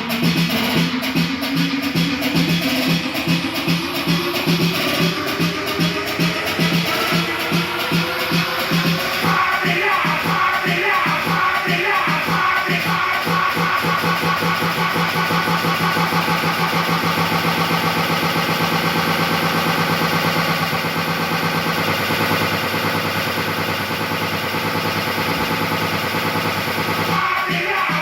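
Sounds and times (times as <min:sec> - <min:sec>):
engine-like pulsing running sound: 0:00.0 - 0:28.0.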